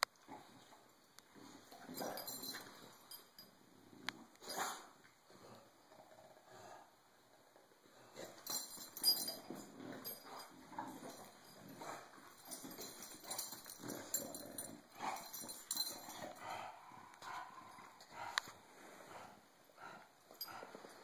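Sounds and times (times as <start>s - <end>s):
dogs play-fighting: 0.3s - 6.9s, 7.8s - 21.0s.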